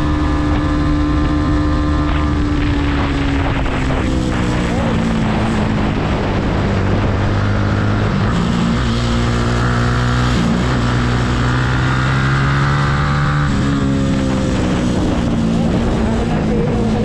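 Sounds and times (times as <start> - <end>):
motorcycle engine under load: 0.0 - 17.0
wind on microphone: 0.0 - 17.0.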